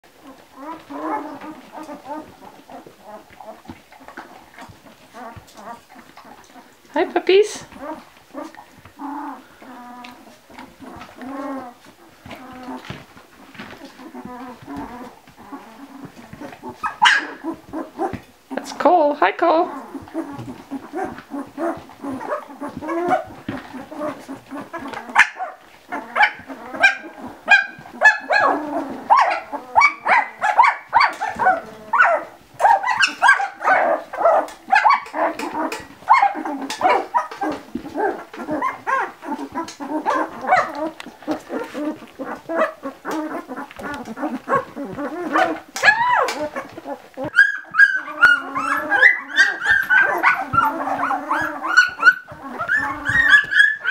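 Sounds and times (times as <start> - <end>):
puppies squealing and whining: 0.2 - 53.9.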